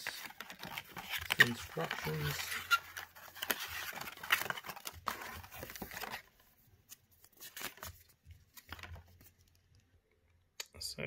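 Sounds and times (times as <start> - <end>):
paper rustling and crinkling: 0.0 - 9.6.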